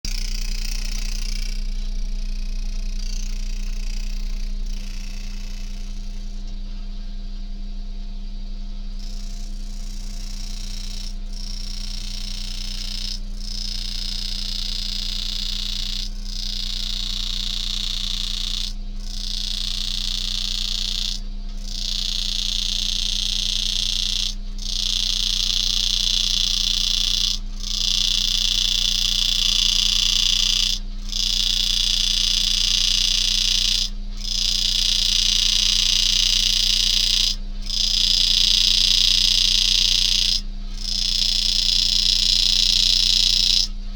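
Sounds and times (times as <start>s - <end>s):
engraving handpiece buzzing: 0.0s - 6.6s, 8.8s - 43.9s
low electrical hum: 0.0s - 43.9s.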